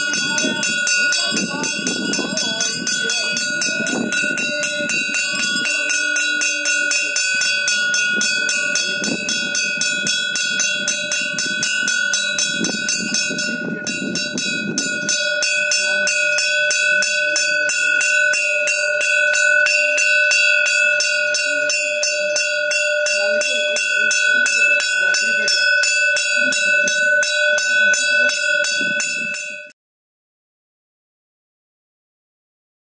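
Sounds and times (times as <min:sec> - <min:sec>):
low crowd voices: 0:00.0 - 0:29.3
bell rung rapidly: 0:00.0 - 0:29.8.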